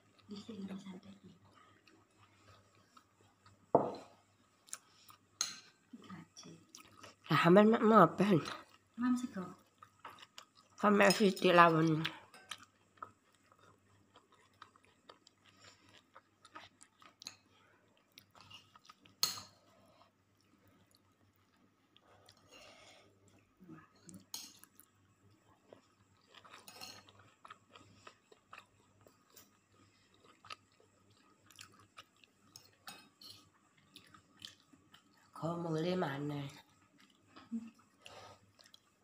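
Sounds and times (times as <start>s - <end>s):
chewing and eating: 0.0s - 7.4s, 8.4s - 39.0s.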